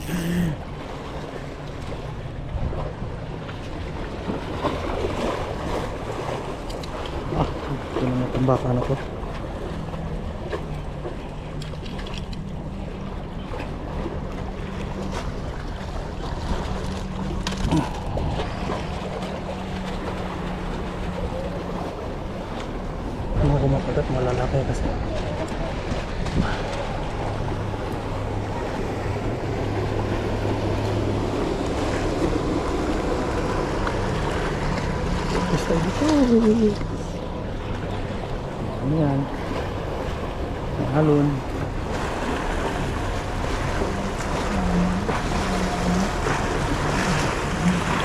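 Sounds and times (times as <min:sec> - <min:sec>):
low motor hum: 0:00.0 - 0:48.0
water noise: 0:00.0 - 0:48.0
waves on shore: 0:00.0 - 0:48.0
wind: 0:00.0 - 0:48.0.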